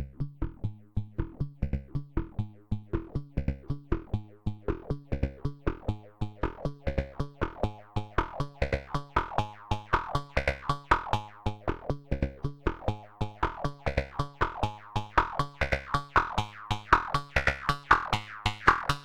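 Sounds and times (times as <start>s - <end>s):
synthesizer plucked notes: 0.4s - 19.0s.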